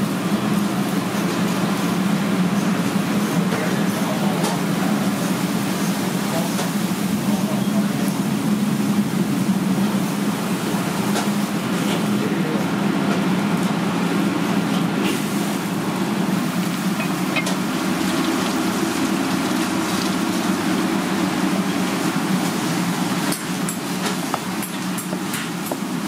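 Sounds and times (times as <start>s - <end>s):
kitchen machinery rumble: 0.0s - 26.0s.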